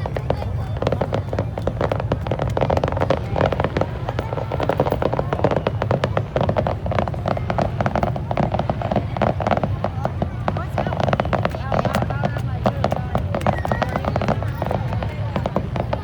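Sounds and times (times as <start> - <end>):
fireworks popping and banging: 0.0 - 16.0.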